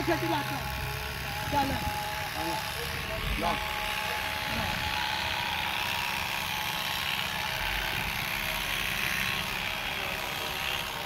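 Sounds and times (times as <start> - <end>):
electric clippers running: 0.0 - 11.0.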